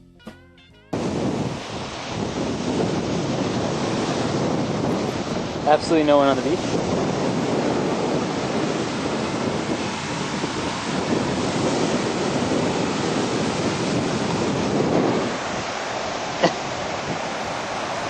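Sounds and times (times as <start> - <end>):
wind buffeting microphone: 0.9 - 18.0
ocean surf washing onto beach: 1.0 - 18.0.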